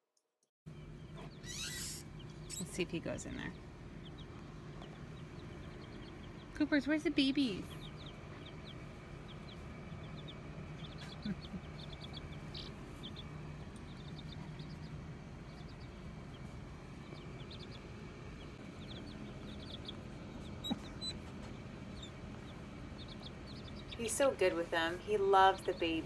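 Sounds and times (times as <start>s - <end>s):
baby chicks peeping: 0.7s - 26.0s.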